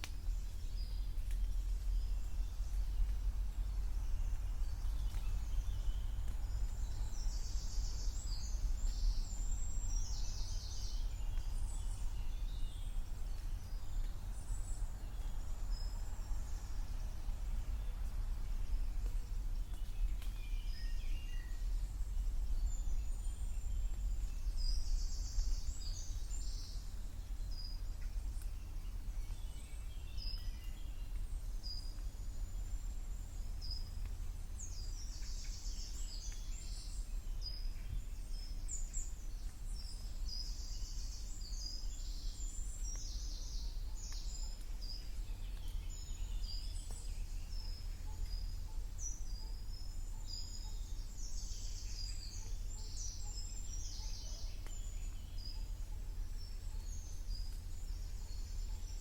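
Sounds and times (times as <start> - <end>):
songbirds chirping and trilling: 0.0 - 59.0
steady low rumble: 0.0 - 59.0.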